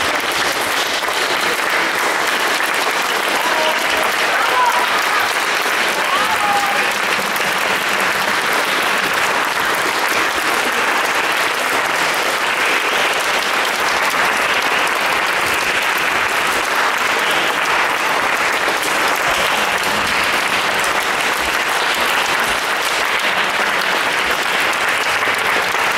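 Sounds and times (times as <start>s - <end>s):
audience applauding: 0.0s - 25.9s.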